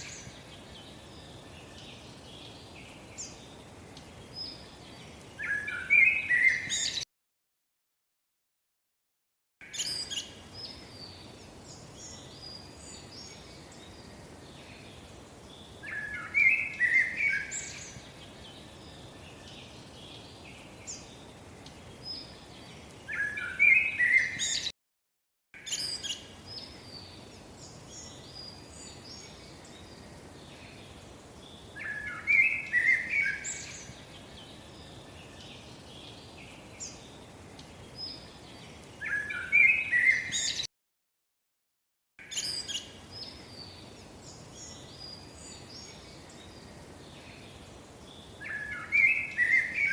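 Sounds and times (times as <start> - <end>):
faint steady hiss: 0.0 - 7.0, 9.6 - 24.7, 25.6 - 40.7, 42.2 - 49.9
birds chirping: 0.0 - 7.1, 9.6 - 24.7, 25.6 - 40.7, 42.2 - 49.9.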